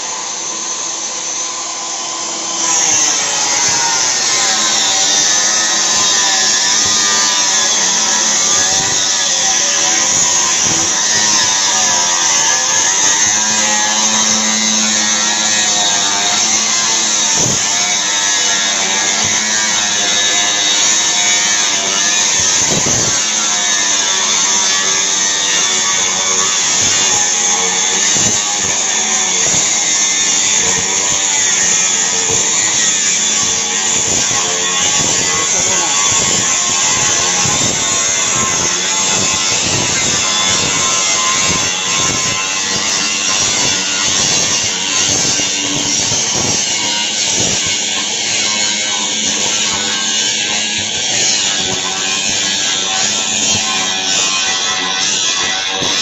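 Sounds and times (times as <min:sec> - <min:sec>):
harsh buzzing exhaust noise: 0:00.0 - 0:56.0.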